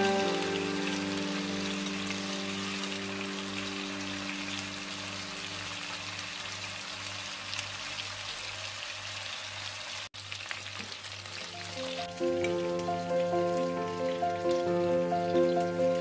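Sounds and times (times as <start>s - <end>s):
chicken sizzling in pan: 0.0s - 16.0s.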